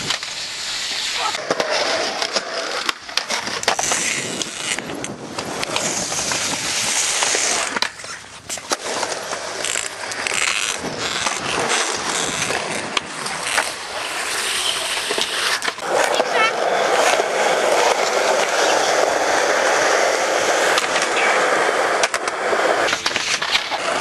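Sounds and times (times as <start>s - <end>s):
skateboard clacking on ground: 0.0s - 24.0s
skateboard wheels rolling on concrete: 0.0s - 24.0s.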